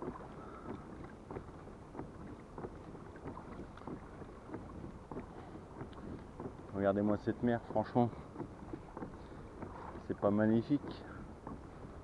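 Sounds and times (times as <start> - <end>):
water lapping against kayak hull: 0.0 - 12.0.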